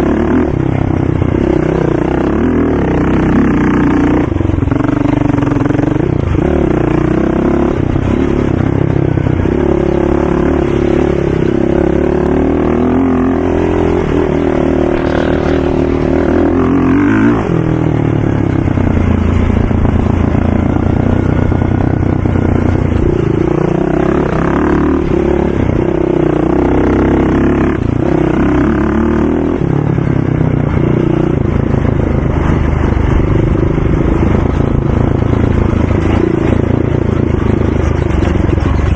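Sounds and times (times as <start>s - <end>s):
atv engines revving: 0.0s - 38.9s.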